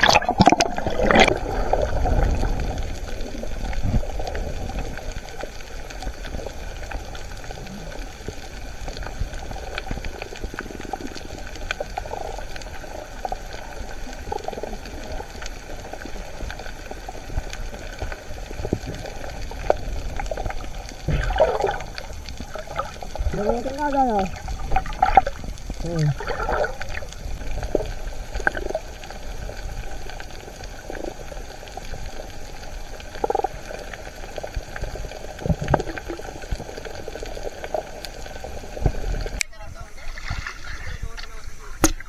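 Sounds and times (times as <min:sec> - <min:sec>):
faint underwater clicks: 0:00.0 - 0:42.0
underwater low rush: 0:00.0 - 0:42.0
water splashing: 0:00.0 - 0:42.0.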